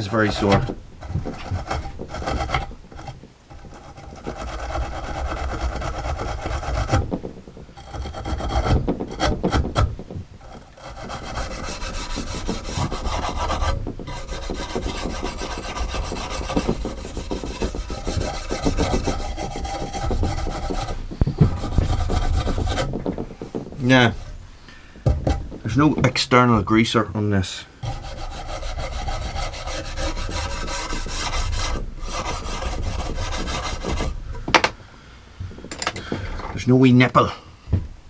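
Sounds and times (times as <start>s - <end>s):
rasping on chainsaw guide bar: 0.0s - 34.7s.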